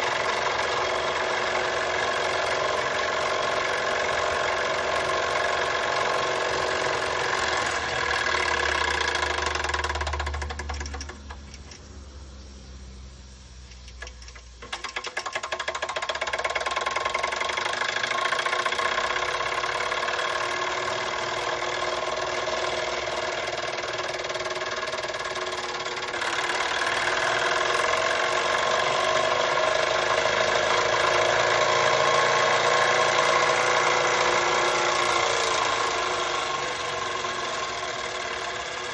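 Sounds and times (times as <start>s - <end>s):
toy steam engine running with hiss: 0.0s - 38.9s.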